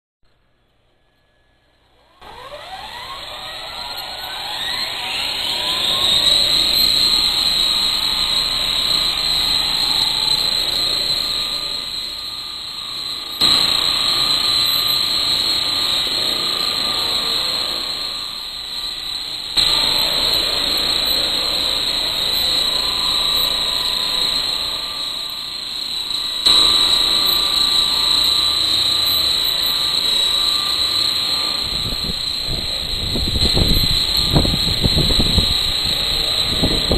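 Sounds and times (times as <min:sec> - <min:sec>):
model helicopter motor whining: 0:02.1 - 0:36.9.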